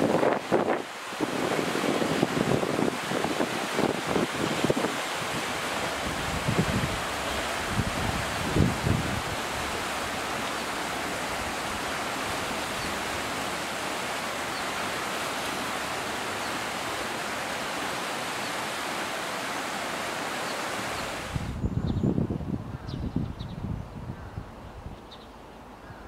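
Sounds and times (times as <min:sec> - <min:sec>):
river rushing over stones: 0:00.0 - 0:21.6.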